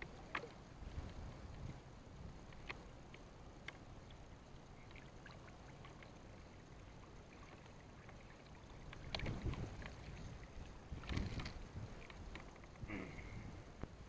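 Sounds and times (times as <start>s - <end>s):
water sloshing and splashing: 0.0s - 12.9s
faint steady water rush: 0.0s - 14.0s.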